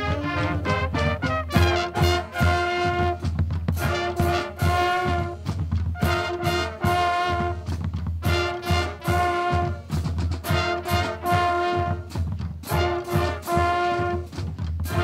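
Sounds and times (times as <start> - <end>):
brass section playing loud chords: 0.0 - 15.0
drums: 0.0 - 15.0.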